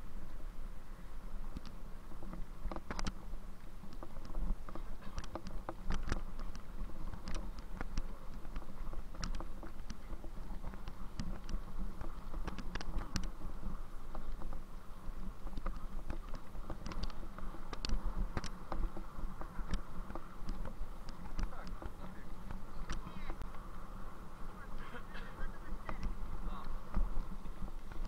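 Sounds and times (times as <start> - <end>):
low rolling rumble: 0.0 - 28.0
bicycle clicks and rattles: 1.5 - 28.0.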